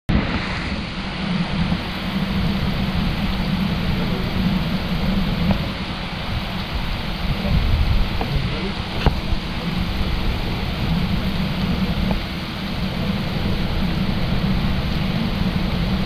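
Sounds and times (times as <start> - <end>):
heavy rain hissing: 0.1 - 16.0
low rumble: 0.1 - 16.0.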